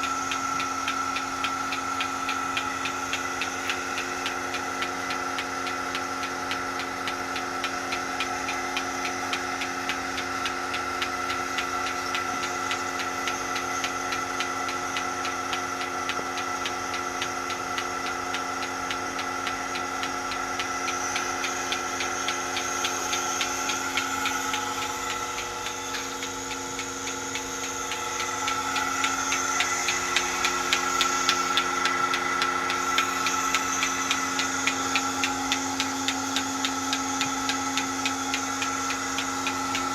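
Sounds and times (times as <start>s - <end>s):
pulsator clicking rhythmically: 0.0s - 39.9s
vacuum pump motor humming: 0.0s - 39.9s.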